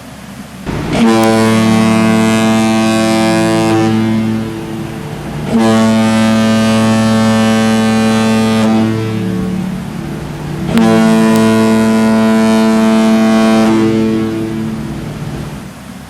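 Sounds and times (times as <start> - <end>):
background hiss: 0.7 - 15.8
ship's horn blasts: 0.7 - 15.8.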